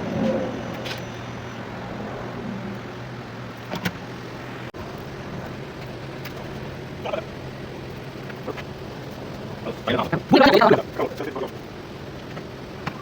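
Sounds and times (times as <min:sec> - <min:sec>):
low hum: 0:00.0 - 0:12.2
background rush: 0:00.0 - 0:13.0.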